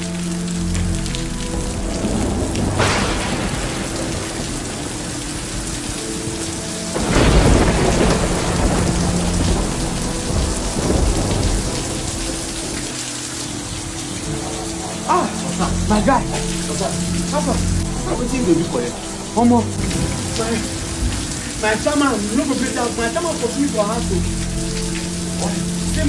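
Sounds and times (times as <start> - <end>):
heavy rain falling: 0.0 - 26.0
thunder rumbling: 0.9 - 26.0.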